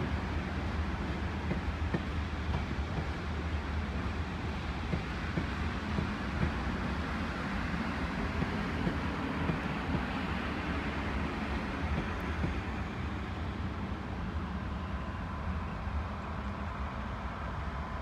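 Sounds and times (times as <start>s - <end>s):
distant traffic rumble: 0.0s - 18.0s
train approaching: 0.0s - 18.0s.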